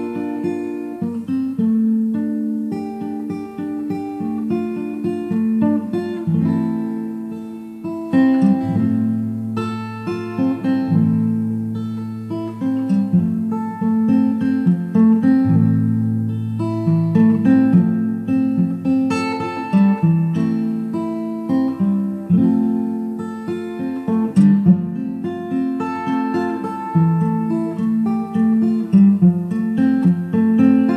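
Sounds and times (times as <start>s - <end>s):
acoustic guitar music: 0.0s - 30.9s.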